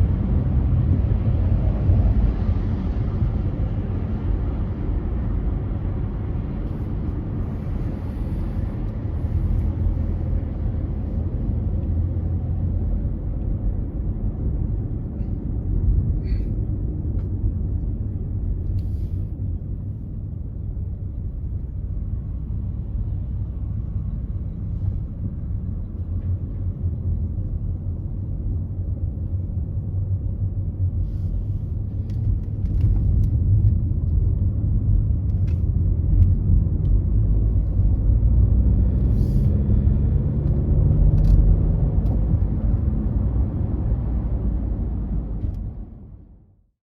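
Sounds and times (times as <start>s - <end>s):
road and engine rumble: 0.0s - 46.8s.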